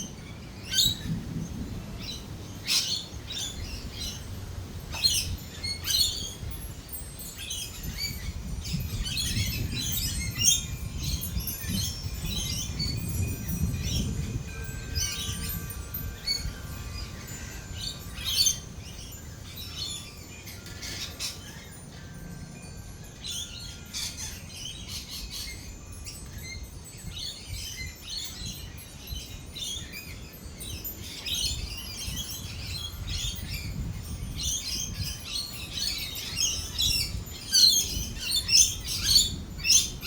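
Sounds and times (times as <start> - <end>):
lorikeets chirping and squawking: 0.0 - 40.0.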